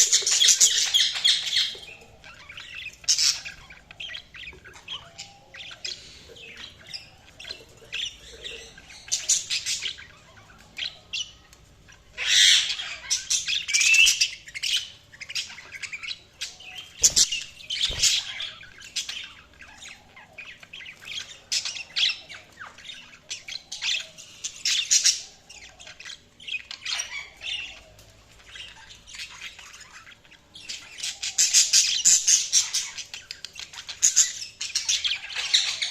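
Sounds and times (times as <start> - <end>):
budgerigars chirping and squawking: 0.0 - 35.9.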